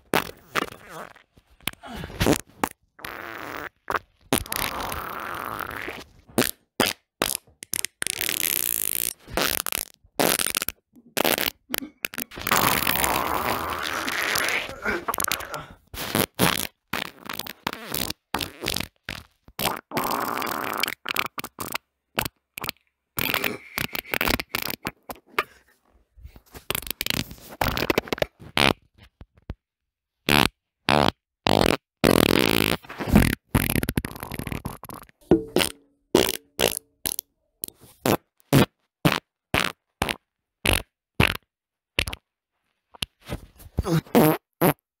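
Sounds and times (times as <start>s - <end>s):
human farts: 0.0s - 25.6s, 26.5s - 29.1s, 30.2s - 42.3s, 43.0s - 44.9s.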